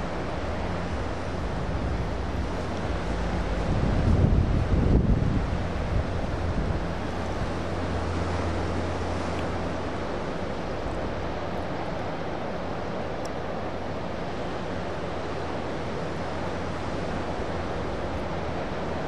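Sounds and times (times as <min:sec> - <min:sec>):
ocean surf breaking: 0:00.0 - 0:19.0
wind noise on microphone: 0:00.0 - 0:19.0.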